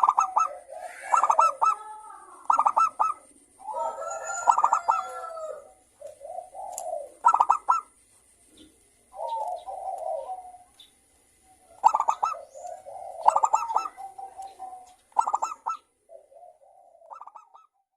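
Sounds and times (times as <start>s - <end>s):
doves cooing: 0.0s - 17.9s.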